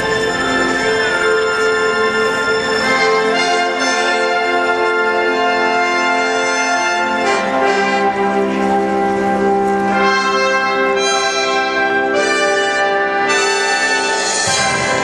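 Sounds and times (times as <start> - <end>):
orchestral music with brass chords: 0.0 - 15.0.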